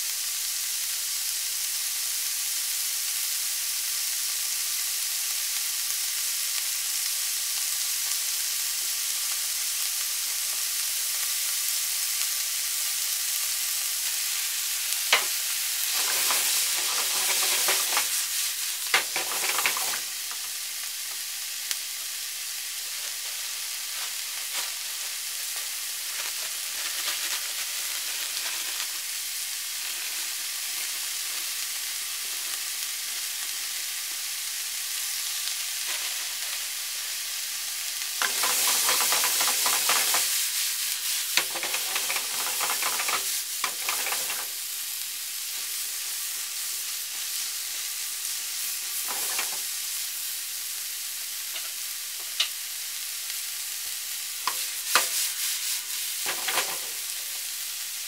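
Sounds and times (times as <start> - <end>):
food sizzling in a frying pan: 0.0 - 58.0
food rustling as stir-fried: 0.2 - 58.0.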